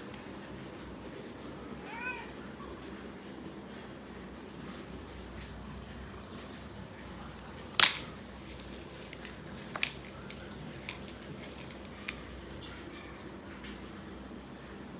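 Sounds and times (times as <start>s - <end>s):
low room hum: 0.0s - 14.9s.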